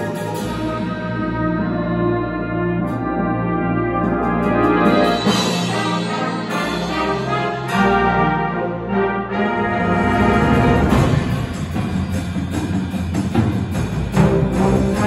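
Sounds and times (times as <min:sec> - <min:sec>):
concert band playing: 0:00.0 - 0:15.0
timpani: 0:00.0 - 0:15.0.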